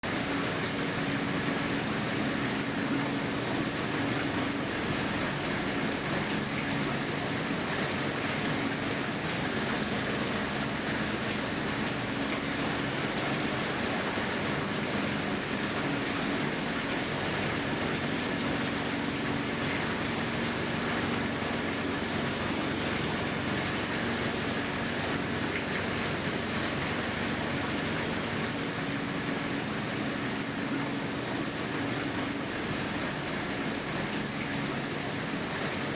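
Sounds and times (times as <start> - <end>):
running water rushing: 0.0 - 35.9.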